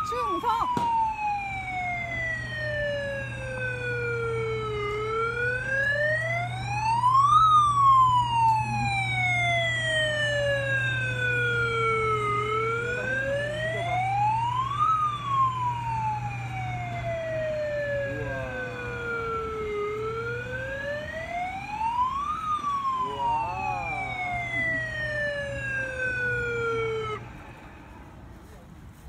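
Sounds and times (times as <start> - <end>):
siren wail from speaker: 0.0 - 28.5
steady low hum: 0.0 - 29.0.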